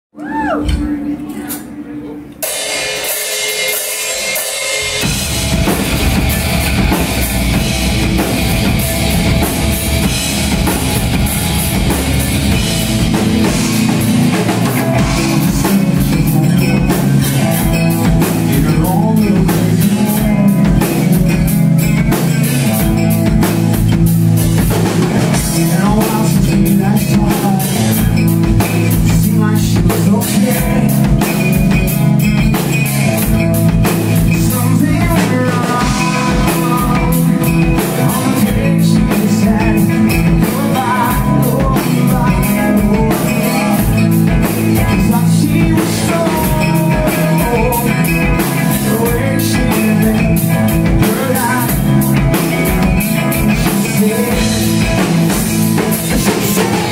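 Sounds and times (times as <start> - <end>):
rock band playing loudly: 0.2 - 56.9.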